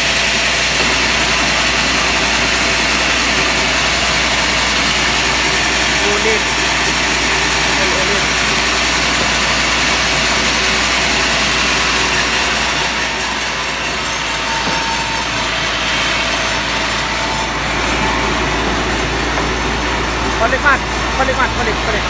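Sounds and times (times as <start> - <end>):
power saw cutting timber: 0.0 - 22.0
saw engine running: 0.0 - 22.0.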